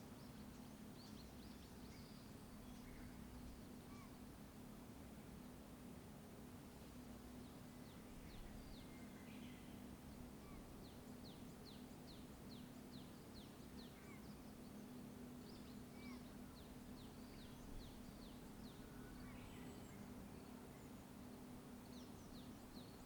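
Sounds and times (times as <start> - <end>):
faint bird song: 0.0 - 5.8, 6.6 - 23.0.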